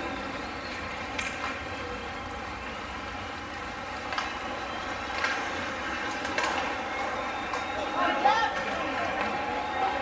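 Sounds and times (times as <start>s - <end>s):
hockey rink noisy hum: 0.0s - 10.0s.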